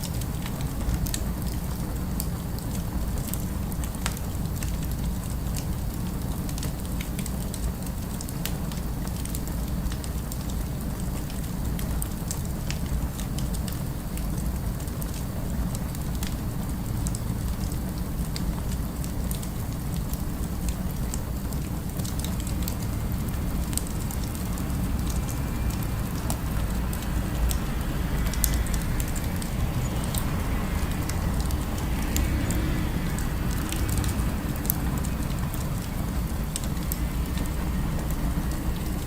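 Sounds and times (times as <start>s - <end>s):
fire crackling: 0.0s - 39.0s
low city rumble: 0.0s - 39.0s.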